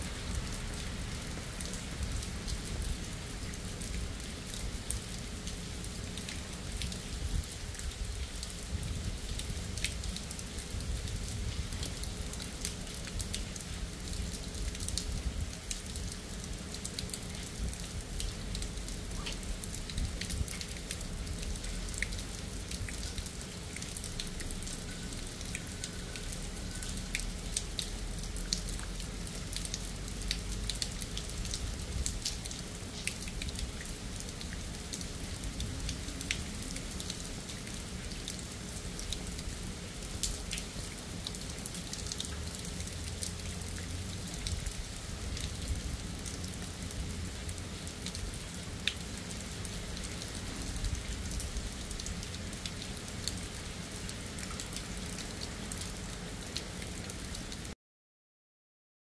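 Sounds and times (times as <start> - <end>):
steady rain falling: 0.0 - 57.8
raindrops ticking close by: 0.1 - 57.8.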